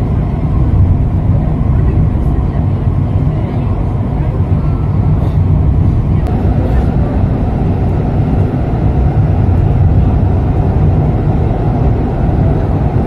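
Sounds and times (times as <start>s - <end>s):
train wheels rumbling in tunnel: 0.0s - 13.0s.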